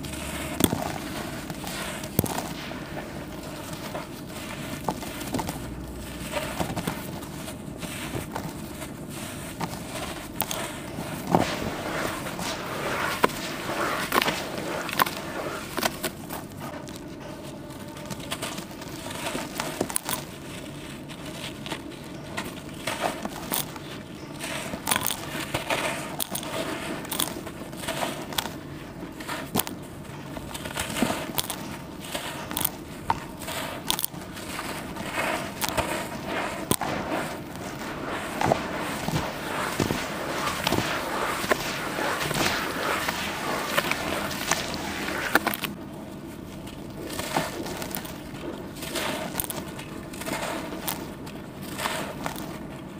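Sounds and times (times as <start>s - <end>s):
wet charcoal squelching and crackling: 0.0s - 52.9s.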